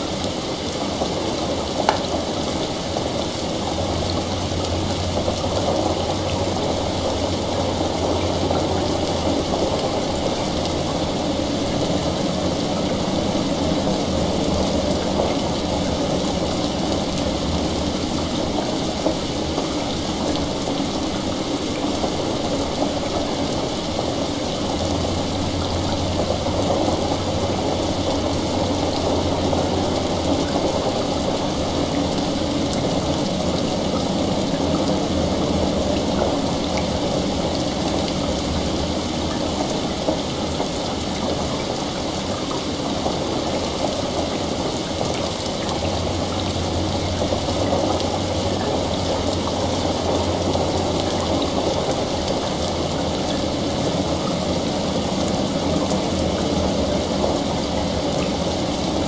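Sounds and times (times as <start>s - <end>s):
heavy rain: 0.0s - 59.0s
water trickling: 0.0s - 59.0s.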